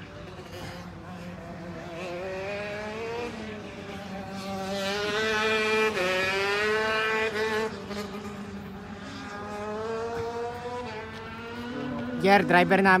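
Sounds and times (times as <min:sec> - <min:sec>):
kart engine at full throttle: 0:00.0 - 0:13.0.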